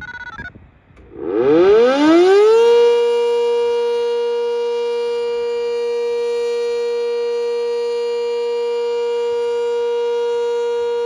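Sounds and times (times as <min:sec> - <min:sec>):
warning siren steady tone: 0:00.0 - 0:11.0.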